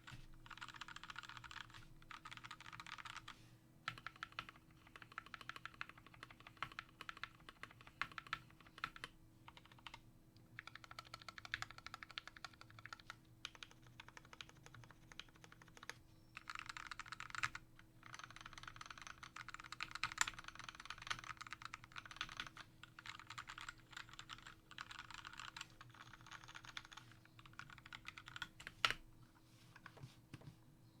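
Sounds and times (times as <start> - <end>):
typing on mechanical keyboard: 0.4 - 3.3, 3.9 - 10.0, 10.6 - 29.0.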